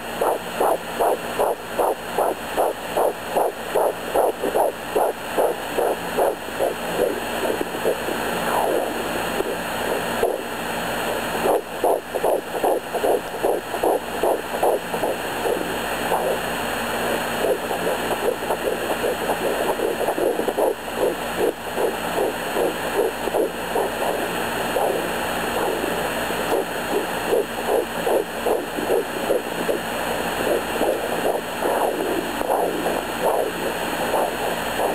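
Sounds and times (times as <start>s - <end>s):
fast heartbeat pulses: 0.0s - 34.9s.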